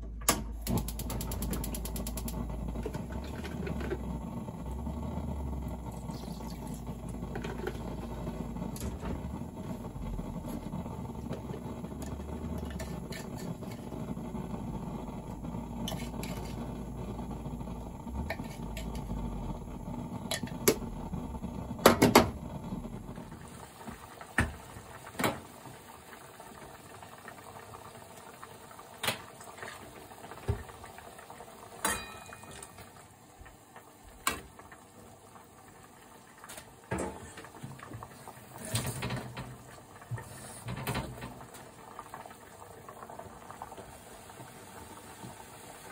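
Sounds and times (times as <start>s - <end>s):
pot boiling: 0.0s - 45.9s.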